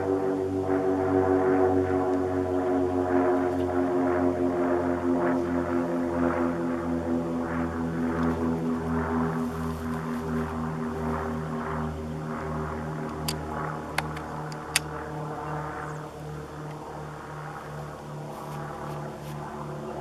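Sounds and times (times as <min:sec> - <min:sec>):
engine droning with throb: 0:00.0 - 0:20.0.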